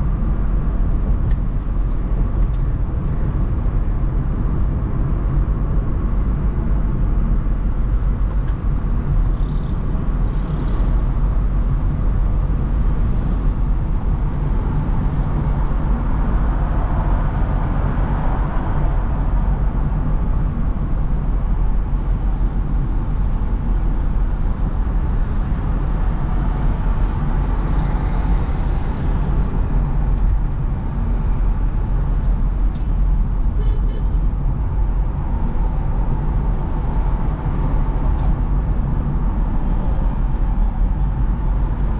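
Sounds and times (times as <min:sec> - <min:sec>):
car driving on city road: 0:00.0 - 0:41.9.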